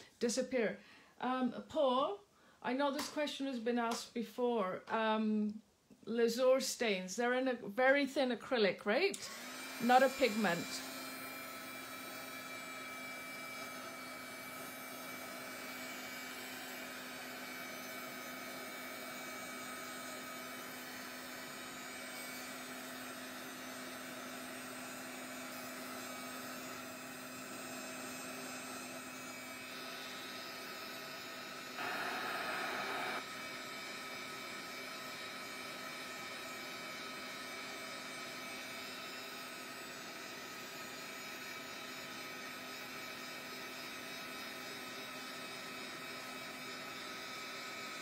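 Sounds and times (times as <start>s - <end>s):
heat gun blowing: 9.1s - 48.0s.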